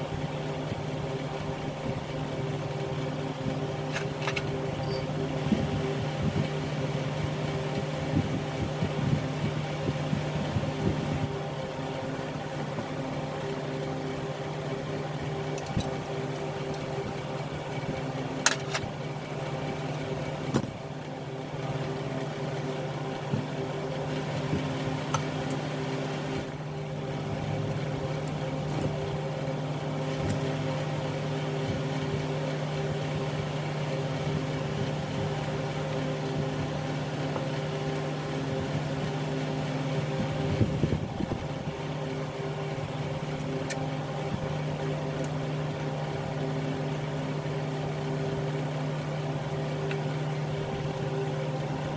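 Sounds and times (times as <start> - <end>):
machine hum: 0.0 - 51.9.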